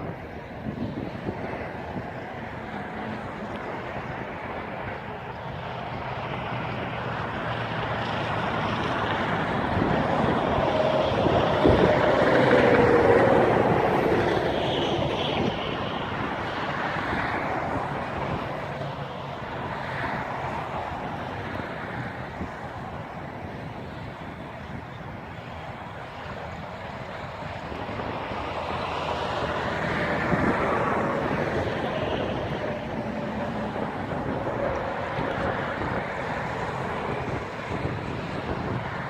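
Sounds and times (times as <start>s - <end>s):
combine harvester passing by: 0.0s - 39.0s.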